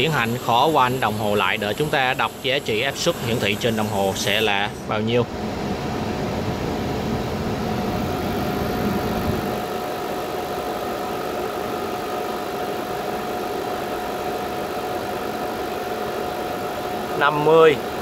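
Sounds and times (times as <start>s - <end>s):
air conditioner hum: 0.0s - 18.0s
steady whining tone: 0.0s - 18.0s.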